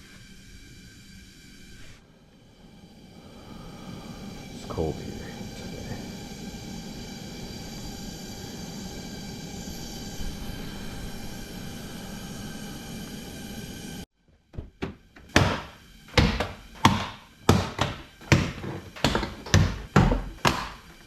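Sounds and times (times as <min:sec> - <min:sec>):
steady hum with tones: 0:00.0 - 0:21.0.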